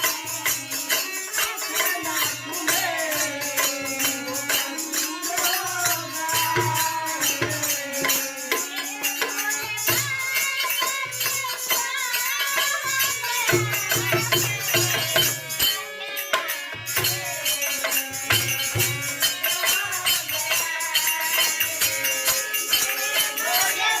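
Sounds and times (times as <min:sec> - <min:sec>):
jingling hand percussion: 0:00.0 - 0:24.0
person singing: 0:00.0 - 0:24.0.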